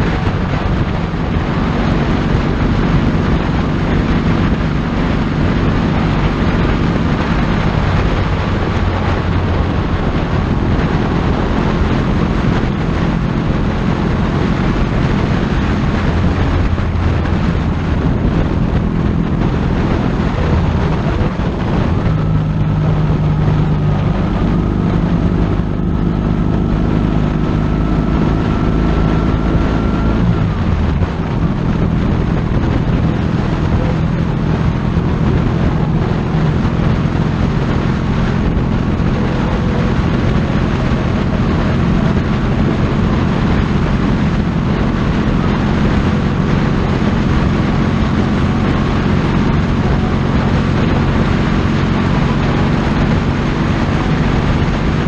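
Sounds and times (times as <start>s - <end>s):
motorcycle engine running: 0.0s - 55.0s
wind rushing: 0.0s - 55.0s.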